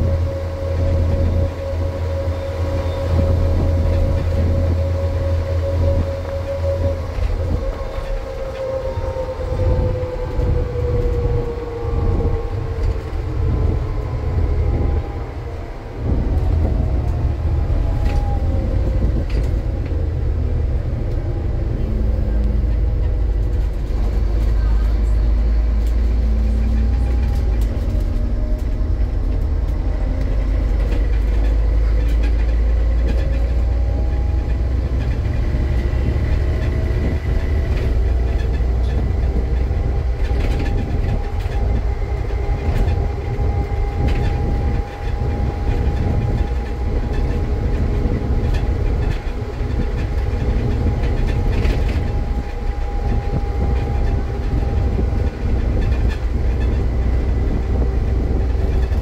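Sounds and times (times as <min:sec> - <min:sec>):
bus diesel engine rumble: 0:00.0 - 0:59.0.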